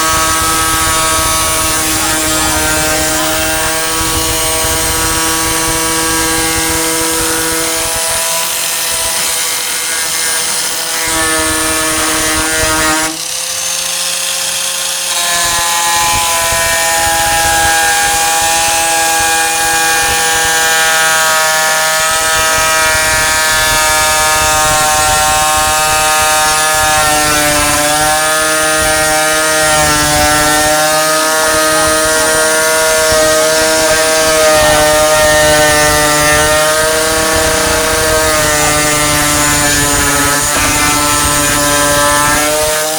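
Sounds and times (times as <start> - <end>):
angle grinder on steel: 0.0 - 42.9.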